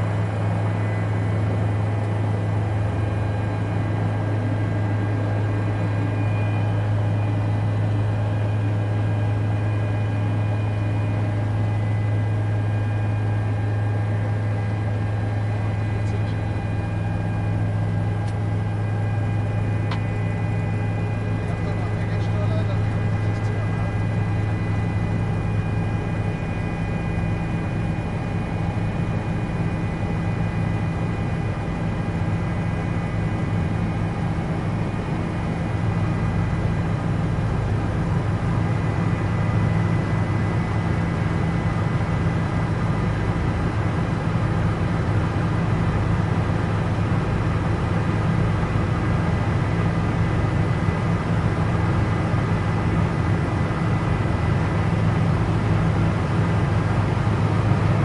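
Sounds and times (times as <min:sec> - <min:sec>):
helicopter cabin drone: 0:00.0 - 0:58.0.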